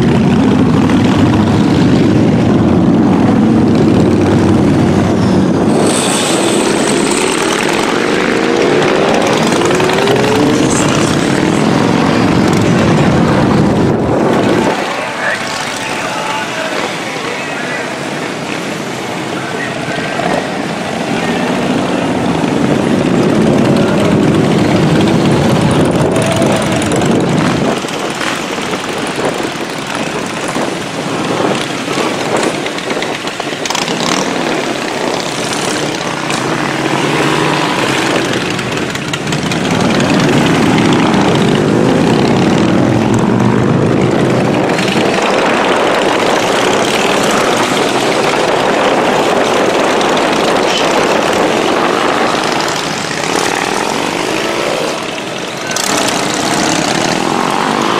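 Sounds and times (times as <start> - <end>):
motorcycle engines running: 0.0 - 57.9.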